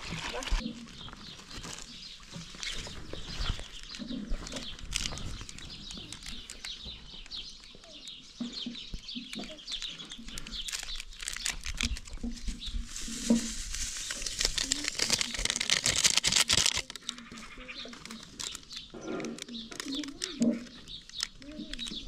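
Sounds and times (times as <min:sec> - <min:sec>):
plastic packet rustling: 0:00.0 - 0:07.4, 0:09.4 - 0:22.0
birds chirping: 0:00.0 - 0:22.0.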